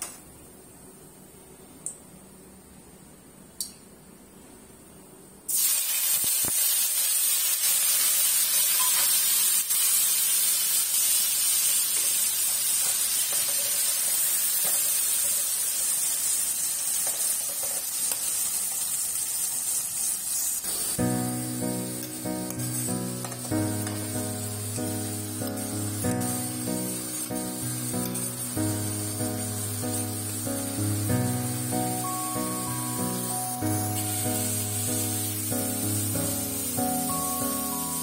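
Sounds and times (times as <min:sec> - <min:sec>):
paste sizzling in hot oil: 0:05.5 - 0:38.0.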